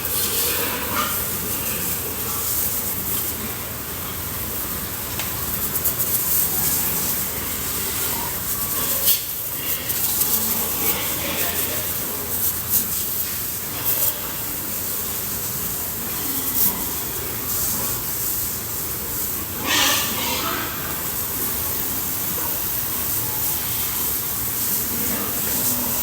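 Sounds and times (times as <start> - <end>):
hose spraying water: 0.0 - 26.0.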